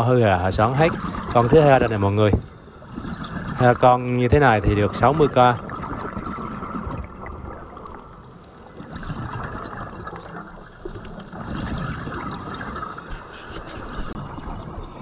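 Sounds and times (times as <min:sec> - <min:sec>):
underwater bubbling of exhaled air: 0:00.0 - 0:15.0.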